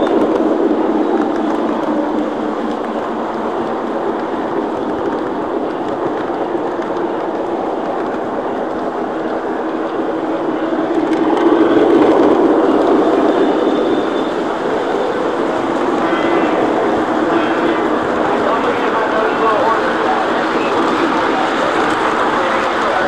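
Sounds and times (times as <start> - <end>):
model train whirring on track: 0.0 - 23.0.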